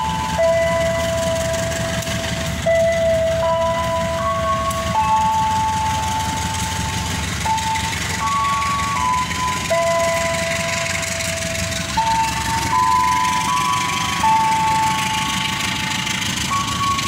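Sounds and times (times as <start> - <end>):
passenger train rumbling past: 0.0 - 17.0.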